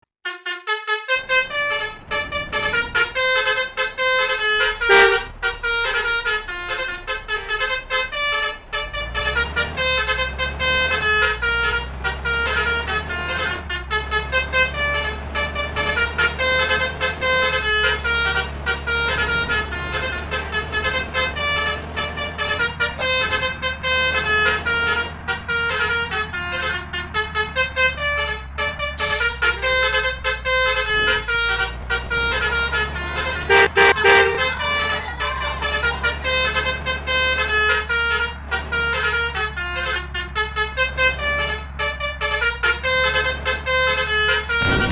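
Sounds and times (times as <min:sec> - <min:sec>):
musical bus horns: 0:00.2 - 0:44.9.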